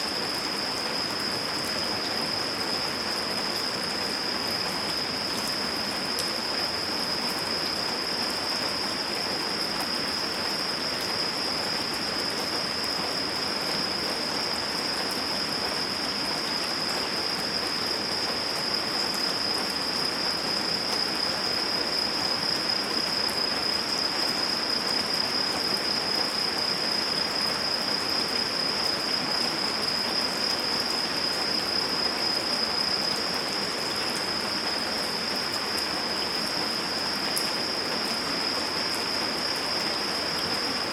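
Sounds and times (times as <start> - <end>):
steady rain falling: 0.0 - 40.9
high-pitched insect trill: 0.1 - 40.9.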